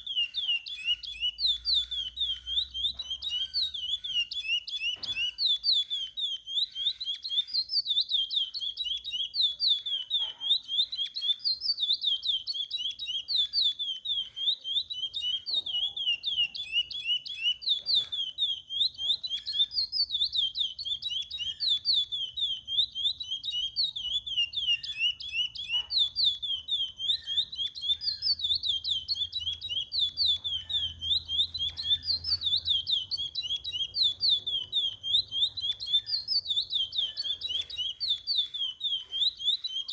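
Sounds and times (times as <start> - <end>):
finch singing whistled notes: 0.0 - 39.9.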